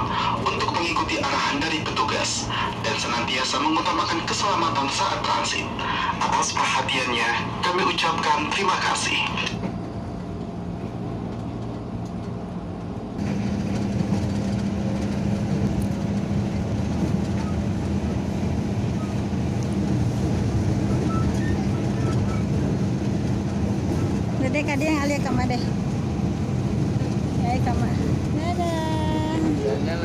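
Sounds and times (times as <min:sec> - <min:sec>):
electric train interior hum and rumble: 0:00.0 - 0:30.0.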